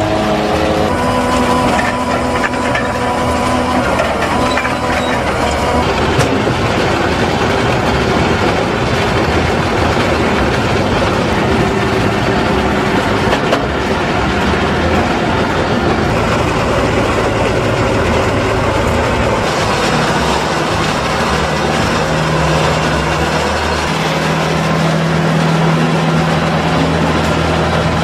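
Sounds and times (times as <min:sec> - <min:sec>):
feed wagon mechanical noise: 0:00.0 - 0:28.0
tractor engine running: 0:00.0 - 0:28.0.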